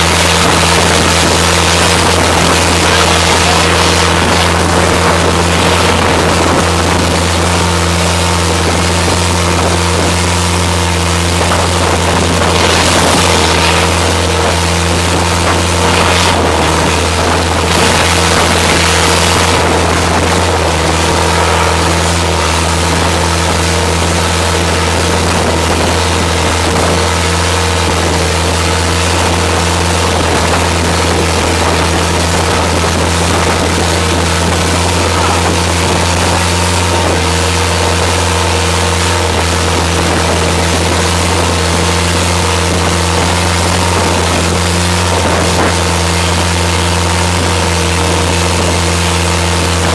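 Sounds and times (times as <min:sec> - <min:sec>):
motorboat engine running: 0:00.0 - 0:49.9
water rushing past hull: 0:00.0 - 0:49.9.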